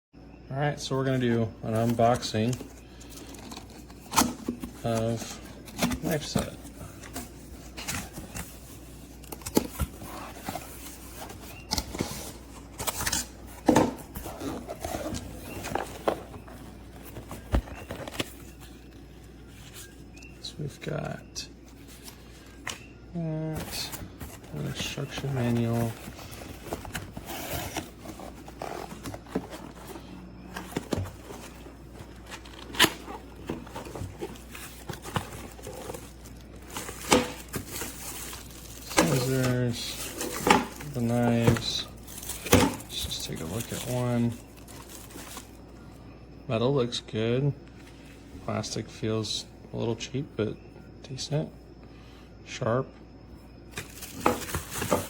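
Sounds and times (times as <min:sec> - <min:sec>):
packaging rustling and scraping: 0:00.8 - 0:46.0, 0:53.7 - 0:55.0.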